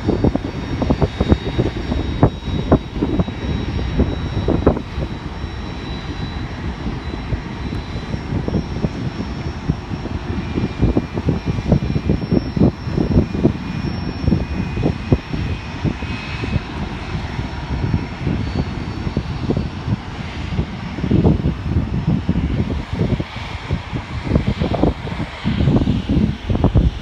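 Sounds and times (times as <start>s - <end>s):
jet engine high whine: 0.0s - 27.0s
wind buffeting microphone: 0.0s - 27.0s.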